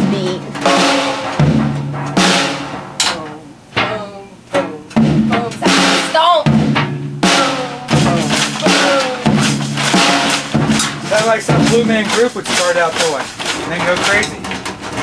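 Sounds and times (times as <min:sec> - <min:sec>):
drum kit hits: 0:00.0 - 0:15.0.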